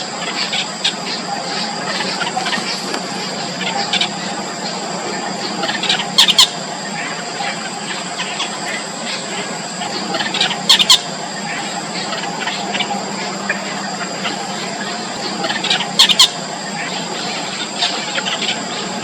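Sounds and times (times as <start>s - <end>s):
nestlings squealing begging calls: 0.0s - 19.0s
steady background hum: 0.0s - 19.0s.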